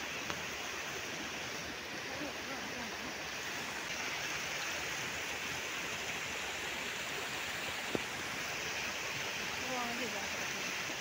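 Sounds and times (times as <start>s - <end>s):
rushing flowing water: 0.0s - 11.0s.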